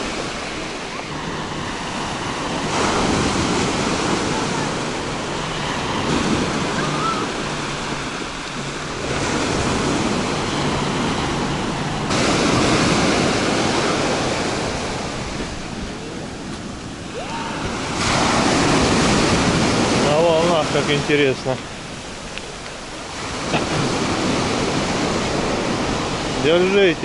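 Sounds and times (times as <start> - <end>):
sea waves breaking on beach: 0.0 - 27.0.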